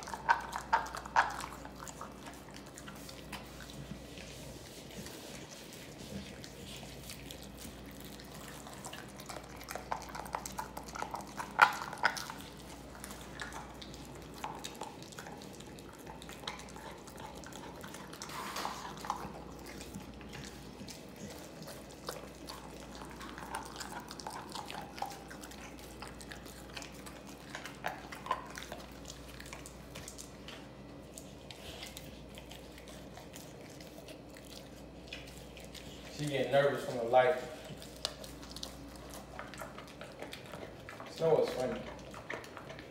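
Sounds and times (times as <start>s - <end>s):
dog licking and smacking: 0.0s - 42.9s.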